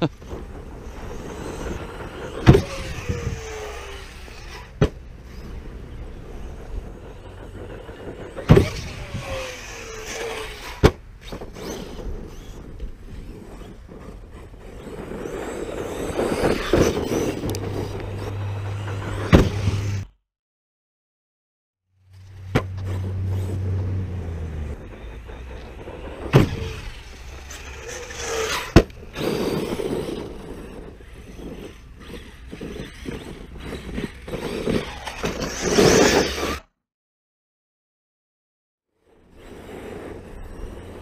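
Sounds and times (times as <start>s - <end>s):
rc truck motor whining: 0.0s - 20.2s, 22.1s - 36.7s, 39.0s - 41.0s
sharp knocks of landings: 0.1s - 20.1s, 22.4s - 36.5s.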